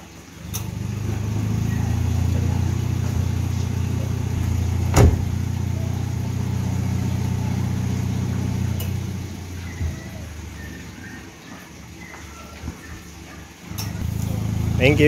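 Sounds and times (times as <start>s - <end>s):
car engine idling: 0.0s - 11.6s, 13.6s - 15.0s.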